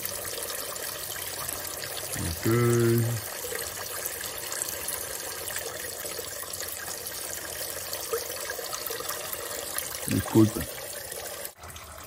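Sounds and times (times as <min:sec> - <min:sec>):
coolant pouring into container: 0:00.0 - 0:12.0.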